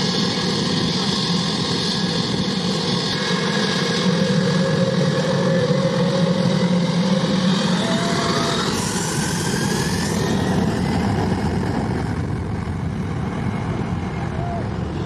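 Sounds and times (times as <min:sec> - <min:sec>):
jet engines rumbling: 0:00.0 - 0:15.0
rising whining tones: 0:01.4 - 0:15.0.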